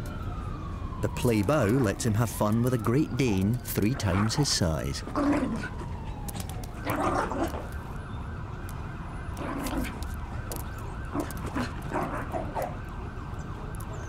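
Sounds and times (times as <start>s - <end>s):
siren yelping: 0.0s - 14.0s.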